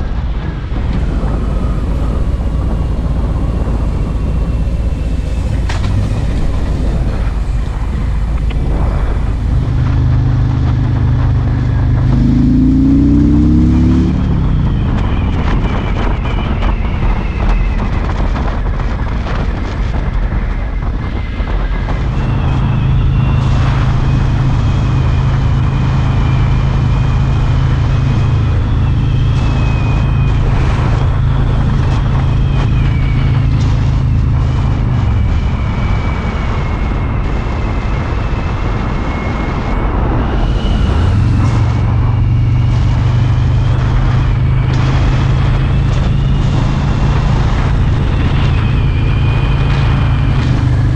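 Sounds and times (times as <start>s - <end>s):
motorcycle engine revving: 0.0s - 16.7s, 21.1s - 50.9s
wind rushing over microphone: 0.0s - 50.9s.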